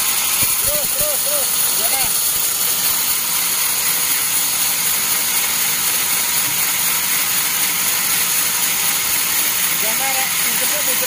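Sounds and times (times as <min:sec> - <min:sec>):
band saw cutting log: 0:00.0 - 0:11.0.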